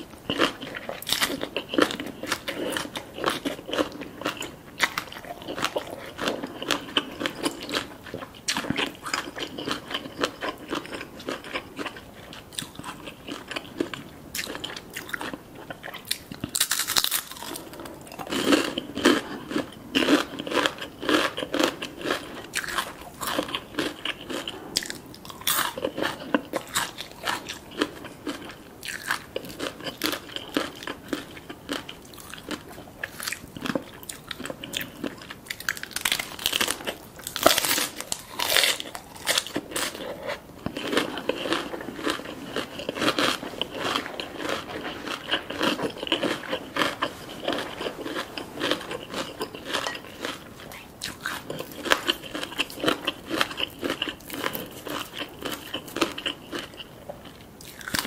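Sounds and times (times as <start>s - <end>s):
crisp crunching and chewing: 0.0s - 58.0s.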